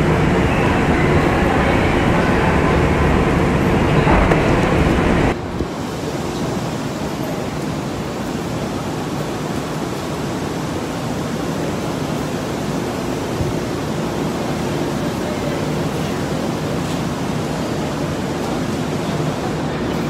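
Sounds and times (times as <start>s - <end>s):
underground station ambience: 0.0s - 20.0s.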